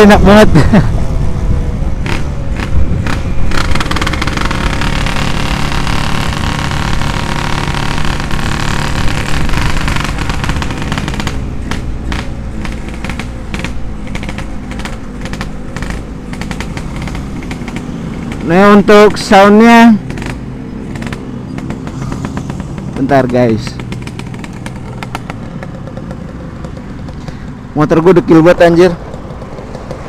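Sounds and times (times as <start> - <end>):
motorcycle two-stroke engine running: 2.0 - 27.8.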